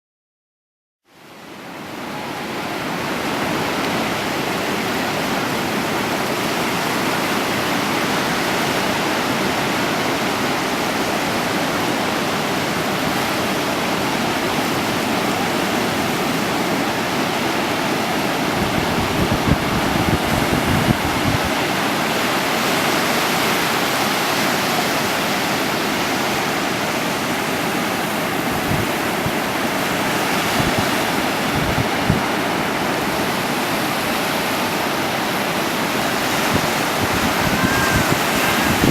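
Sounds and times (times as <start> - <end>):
sea surf rushing: 1.1 - 38.9.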